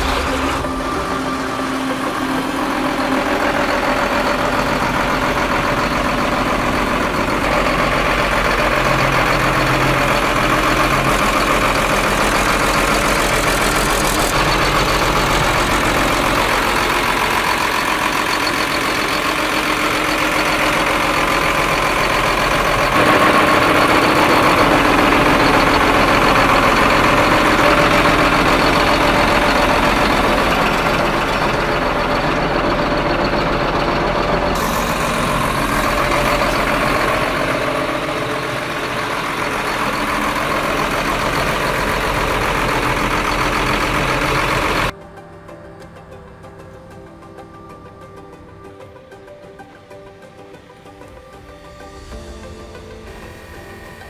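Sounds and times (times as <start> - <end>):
diesel tractor engine idling: 0.0 - 45.0.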